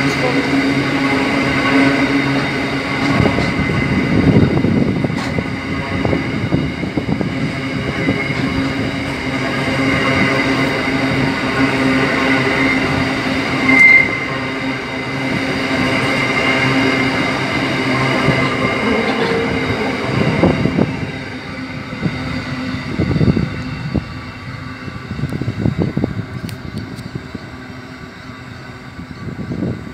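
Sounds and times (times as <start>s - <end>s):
high wheel squeal: 0.0s - 29.9s.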